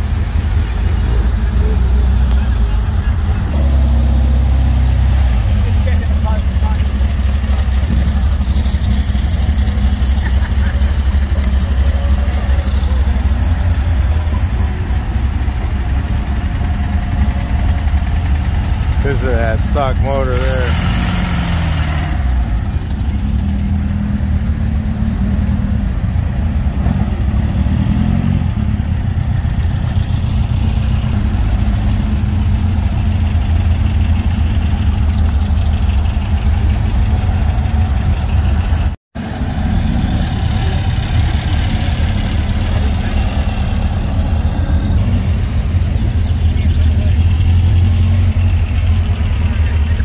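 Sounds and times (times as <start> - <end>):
car engines rumbling: 0.0 - 50.0.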